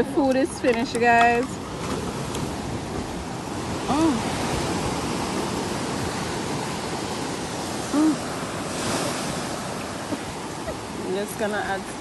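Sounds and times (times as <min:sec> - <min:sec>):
sea surf washing ashore: 0:00.0 - 0:12.0.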